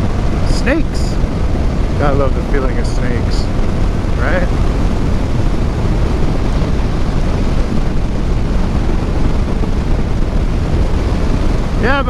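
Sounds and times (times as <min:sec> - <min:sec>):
motorcycle running: 0:00.0 - 0:12.0
wind rushing over microphone: 0:00.0 - 0:12.0.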